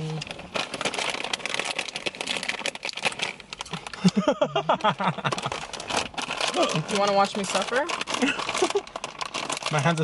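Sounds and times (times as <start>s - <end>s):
bag crinkling: 0.0s - 10.0s
people crunching crispy chips: 0.0s - 10.0s.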